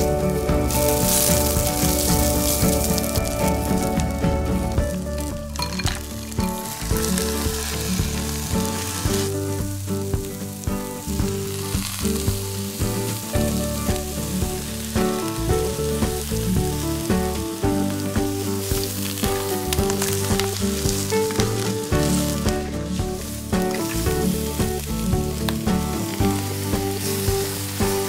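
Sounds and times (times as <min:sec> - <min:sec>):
background music: 0:00.0 - 0:28.0
food sizzling in hot oil: 0:00.0 - 0:28.0.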